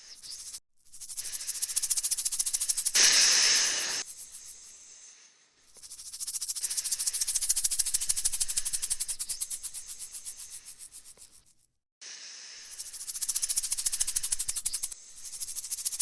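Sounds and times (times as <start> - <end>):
snake hissing: 0.0 - 11.1, 12.0 - 16.0
rattlesnake rattling: 0.0 - 11.7, 12.4 - 16.0.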